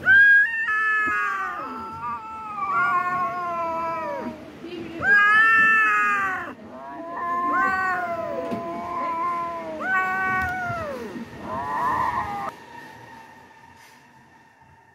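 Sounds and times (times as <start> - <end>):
kittens meowing: 0.0 - 12.5.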